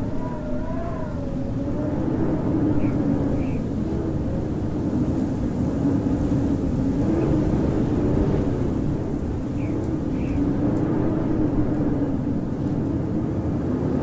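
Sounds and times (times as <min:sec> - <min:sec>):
howling wind: 0:00.0 - 0:14.0.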